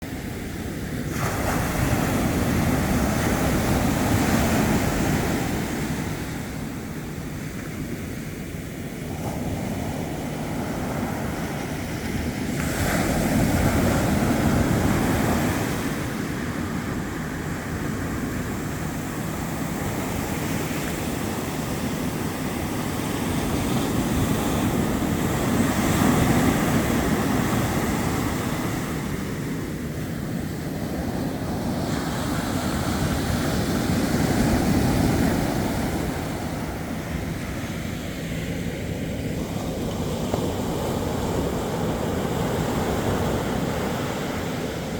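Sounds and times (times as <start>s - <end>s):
wind on microphone: 0.0s - 44.9s
ocean surf breaking: 0.1s - 44.9s.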